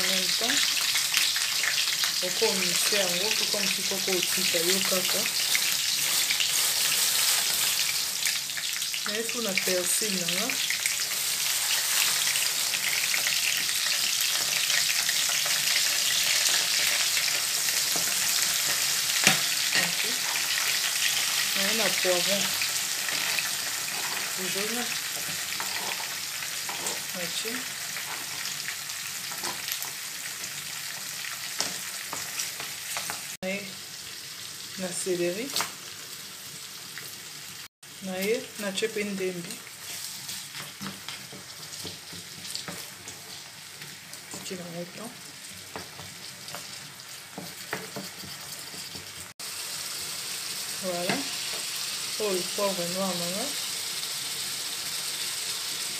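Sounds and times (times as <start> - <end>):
onions frying in hot oil: 0.0 - 55.9.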